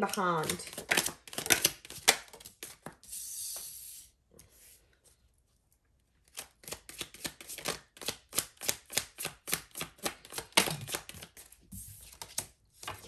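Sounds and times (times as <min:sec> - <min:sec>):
cards being shuffled: 0:00.0 - 0:04.7, 0:06.2 - 0:13.0.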